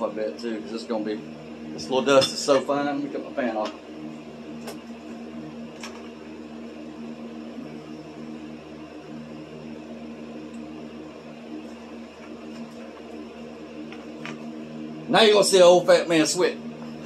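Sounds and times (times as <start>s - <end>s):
appliance air whir: 0.0s - 17.0s
steady electrical hum: 0.0s - 17.0s.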